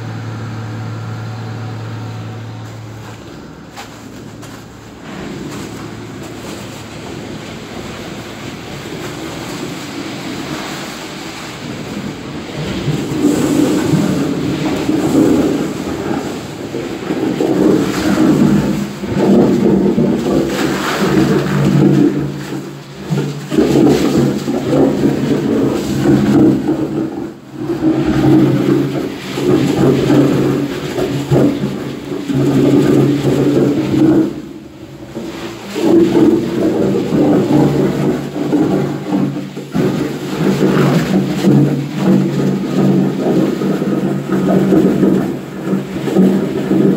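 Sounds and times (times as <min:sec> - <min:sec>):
pump engine drone: 0:00.0 - 0:46.9
rushes of sand-cement mix: 0:00.0 - 0:46.9.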